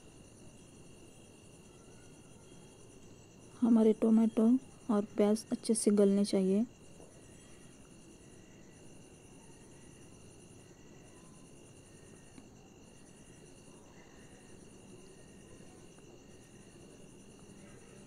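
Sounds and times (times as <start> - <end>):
cricket trilling: 0.0 - 18.0.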